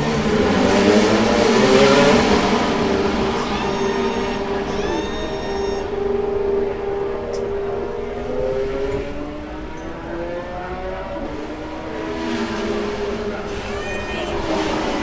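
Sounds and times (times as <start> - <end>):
car engine gliding in pitch: 0.0 - 15.0.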